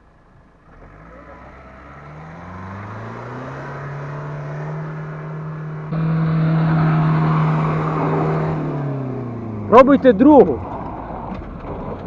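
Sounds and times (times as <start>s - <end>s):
car engine revving hard: 0.6s - 12.0s.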